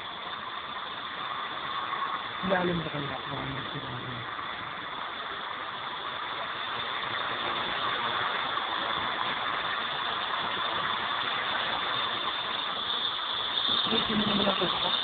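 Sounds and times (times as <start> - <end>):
high-pitched motor whine: 0.0 - 15.0
rotor blades rushing: 1.3 - 15.0.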